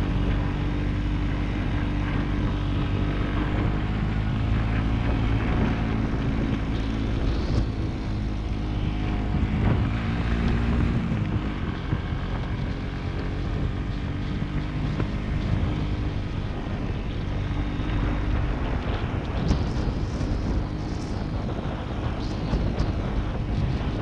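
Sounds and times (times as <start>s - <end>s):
motorcycle engine running: 0.0s - 24.0s
wind noise on microphone: 0.0s - 24.0s.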